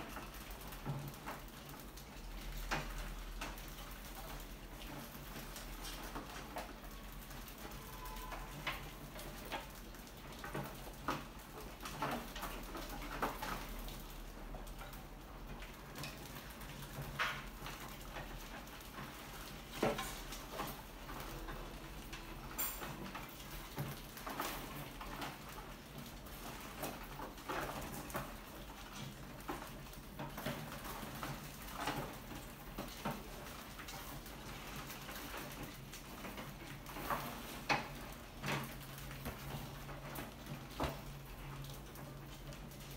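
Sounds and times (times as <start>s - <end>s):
rats scrabbling on wire mesh: 0.0s - 42.9s.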